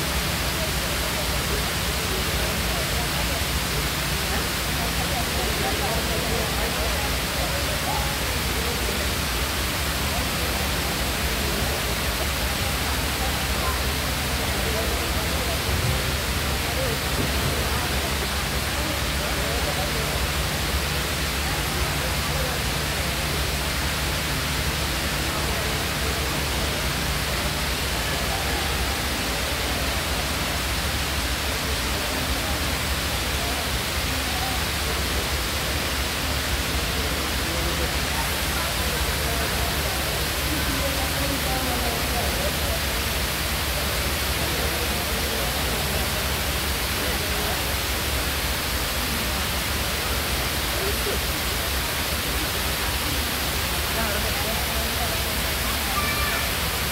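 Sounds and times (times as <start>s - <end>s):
faint voices of people: 0.0s - 56.9s
water rushing down a wall: 0.0s - 56.9s.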